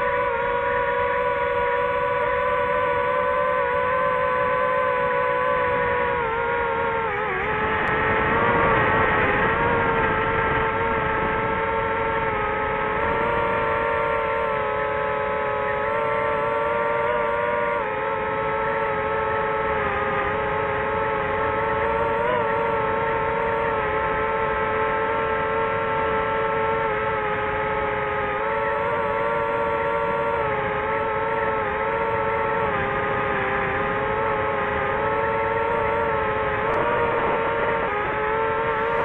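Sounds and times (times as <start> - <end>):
drone motors whining: 0.0 - 39.0.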